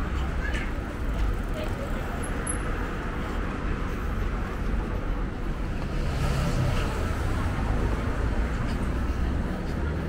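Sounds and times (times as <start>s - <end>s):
road traffic hum: 0.0s - 10.0s
vehicle engine: 0.0s - 10.0s.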